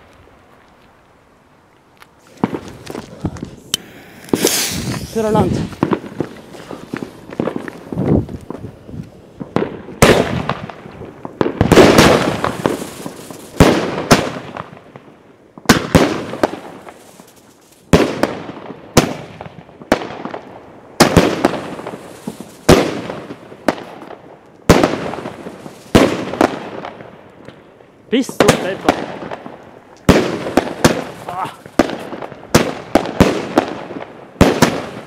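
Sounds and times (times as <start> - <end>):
fireworks bangs with crackling: 2.2 - 35.0.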